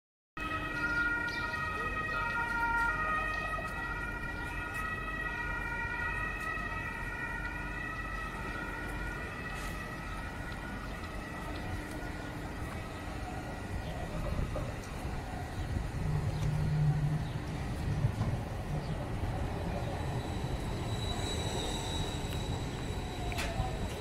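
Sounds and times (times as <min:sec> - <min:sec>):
tram whining: 0:00.4 - 0:24.0.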